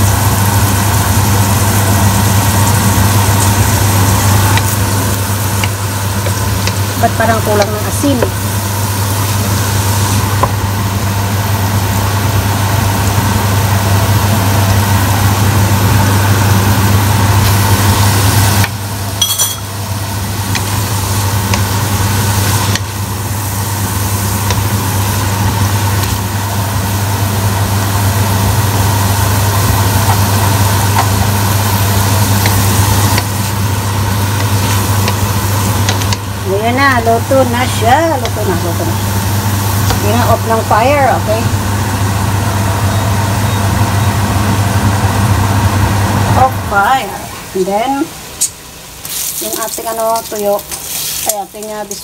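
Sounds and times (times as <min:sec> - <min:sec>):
food sizzling in a pot: 0:00.0 - 0:43.4, 0:49.0 - 0:52.0
steady low hum: 0:00.0 - 0:52.0.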